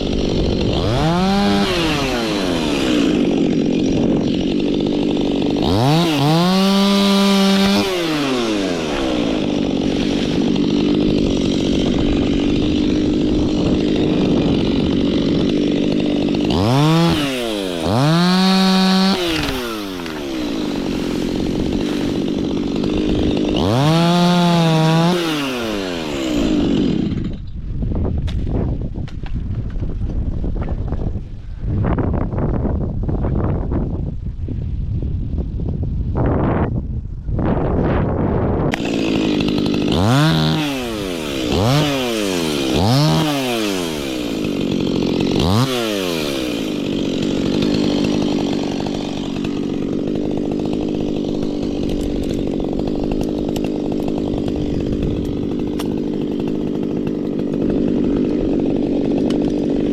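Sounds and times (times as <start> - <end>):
chainsaw cutting wood: 0.0 - 31.4, 37.8 - 59.9.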